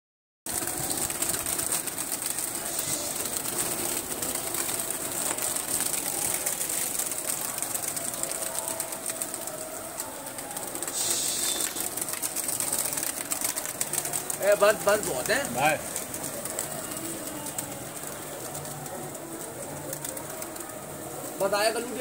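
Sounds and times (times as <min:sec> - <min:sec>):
pigeon wings flapping: 0:00.5 - 0:22.0.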